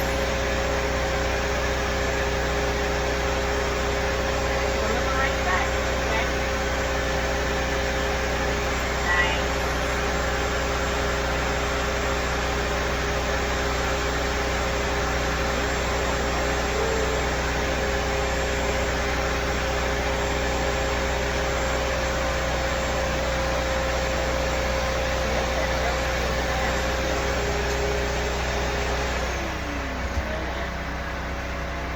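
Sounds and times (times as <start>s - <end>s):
blow dryer running: 0.0s - 31.9s.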